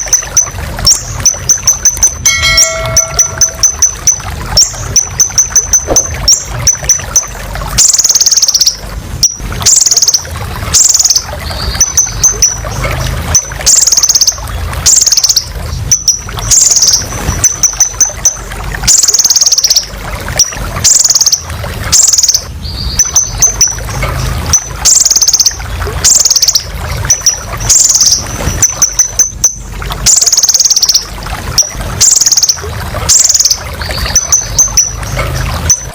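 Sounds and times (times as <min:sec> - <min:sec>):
sunbird singing: 0:00.0 - 0:35.9.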